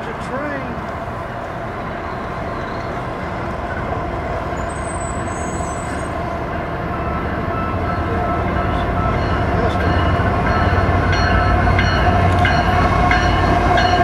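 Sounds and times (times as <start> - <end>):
locomotive engine rumble and whine: 0.0 - 14.0.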